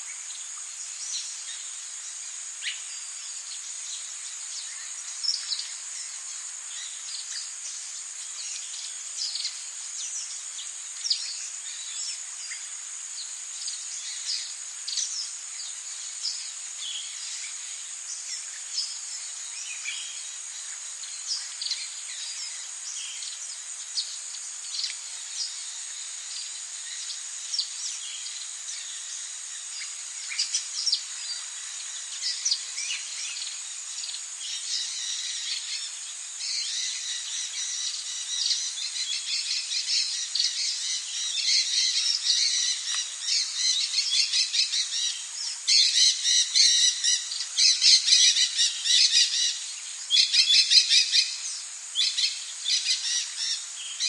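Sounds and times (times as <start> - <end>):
high-pitched insect drone: 0.0 - 54.0.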